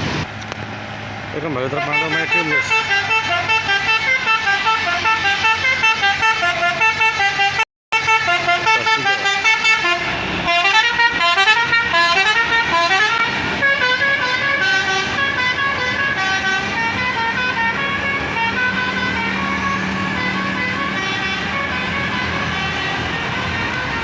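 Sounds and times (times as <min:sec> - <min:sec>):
passing bus noise: 0:00.0 - 0:24.0
bus horn playing melody: 0:01.7 - 0:24.0.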